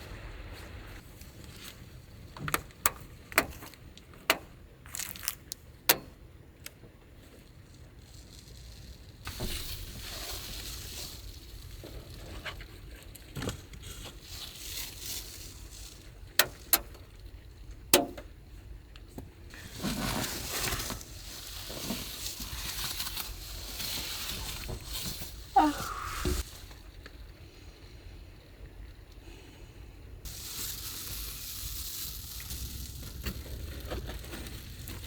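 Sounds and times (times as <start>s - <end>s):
rustling and handling noises: 1.0s - 6.2s, 7.2s - 17.3s, 19.0s - 27.1s, 30.3s - 35.0s.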